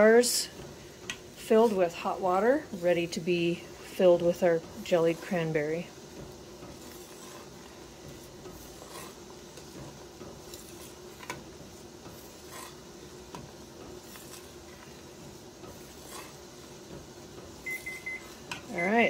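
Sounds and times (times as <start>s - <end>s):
sauce boiling: 0.0s - 19.0s.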